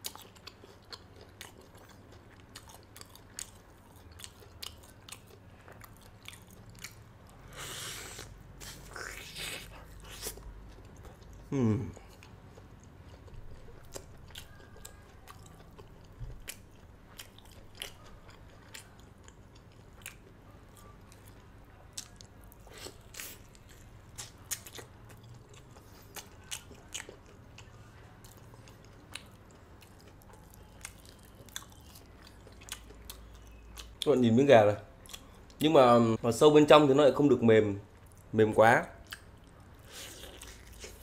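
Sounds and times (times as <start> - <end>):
crunchy chewing: 0.0 - 34.0, 39.0 - 41.0.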